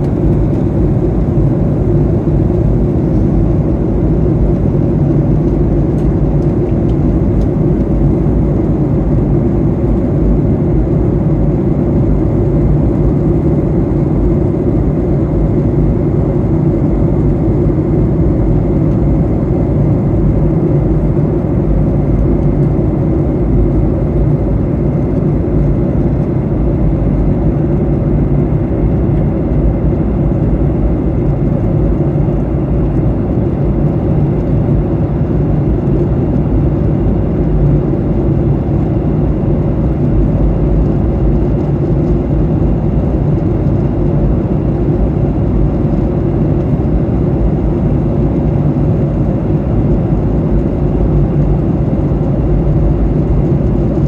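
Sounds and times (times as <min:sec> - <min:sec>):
airplane cabin engine noise: 0:00.0 - 0:54.0.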